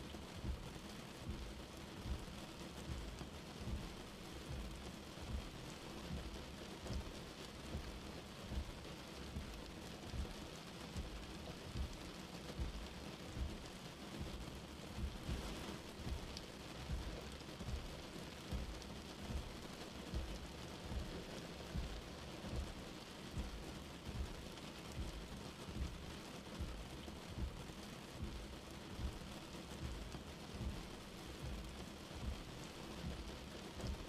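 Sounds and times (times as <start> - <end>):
rain on car windshield: 0.0 - 34.0.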